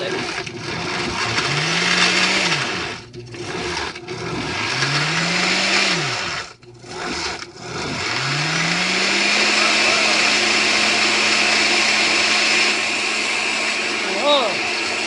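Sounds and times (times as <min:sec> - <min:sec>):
blades churning thick smoothie: 0:00.0 - 0:15.0
blender motor pulsing: 0:00.0 - 0:15.0.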